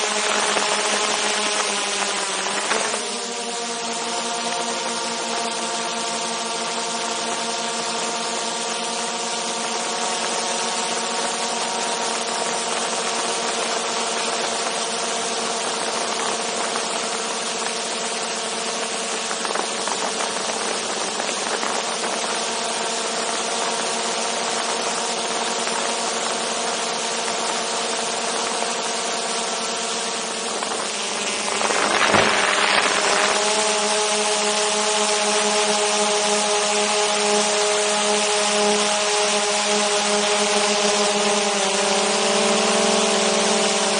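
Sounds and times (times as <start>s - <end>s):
drone propellers whining: 0.0s - 43.9s.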